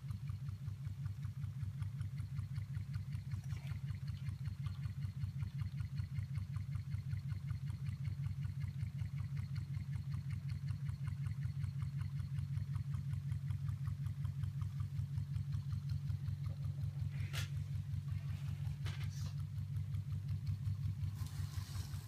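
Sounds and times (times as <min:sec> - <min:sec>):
engine pulsing hum: 0:00.0 - 0:22.0.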